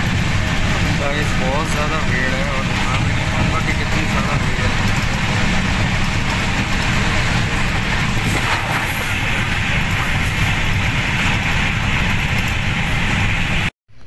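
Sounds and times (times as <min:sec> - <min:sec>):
train wheels rumbling on rails: 0:00.0 - 0:13.7.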